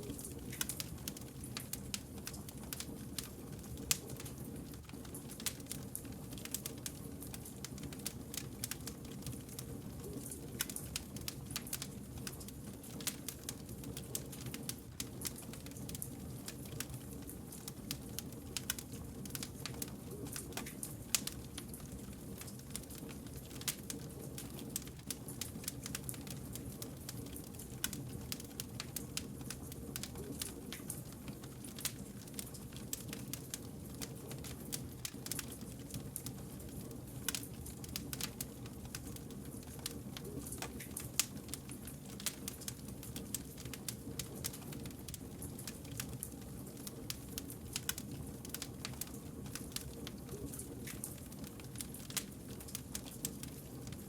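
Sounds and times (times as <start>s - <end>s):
burning logs crackling: 0.0s - 54.0s.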